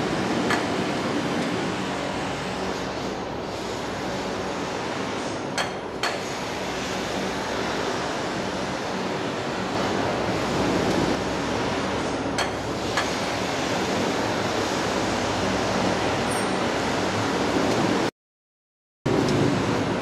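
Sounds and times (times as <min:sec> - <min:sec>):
machinery hiss and hum: 0:00.0 - 0:18.1.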